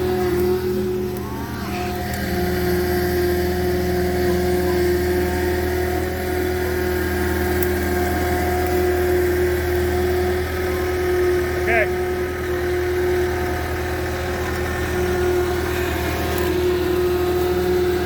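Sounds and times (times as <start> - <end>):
auger engine running: 0.0 - 18.0.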